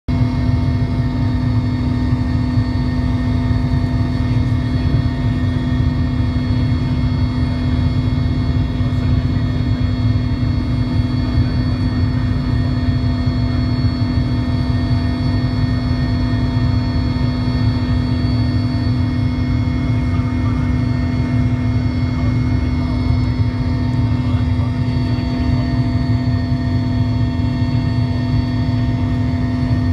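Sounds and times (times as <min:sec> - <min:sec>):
helicopter cabin drone: 0:00.1 - 0:29.9
thin steady whines: 0:00.1 - 0:29.9.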